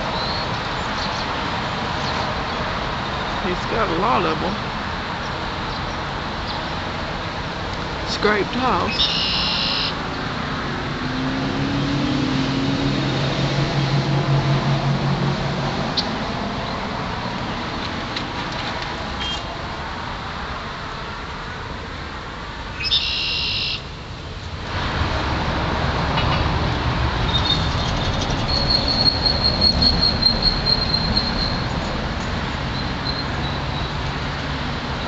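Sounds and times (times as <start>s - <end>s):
traffic and street noise: 0.0s - 35.0s.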